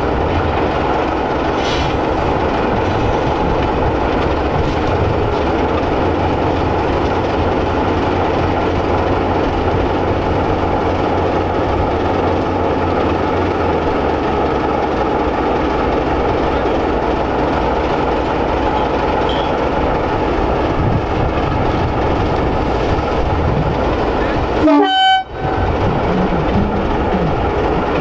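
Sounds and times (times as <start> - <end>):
diesel locomotive engine humming: 0.0 - 28.0
train coaches rolling on track: 0.0 - 28.0.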